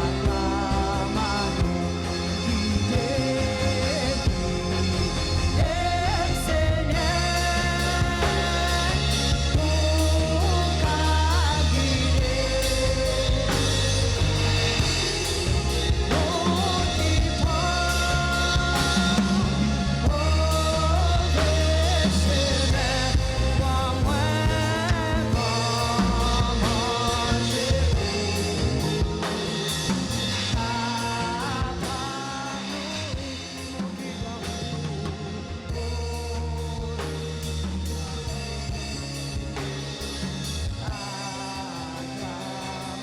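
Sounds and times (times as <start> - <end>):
person singing: 0.0 - 39.2
bass: 0.0 - 43.0
drums: 0.0 - 43.0.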